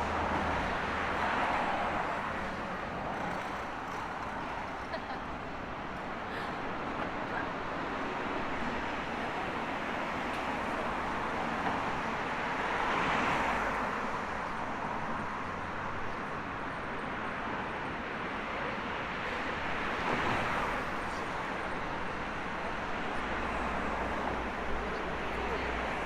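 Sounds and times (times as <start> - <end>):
city street traffic: 0.0 - 26.0
vehicles passing close by: 0.0 - 26.0.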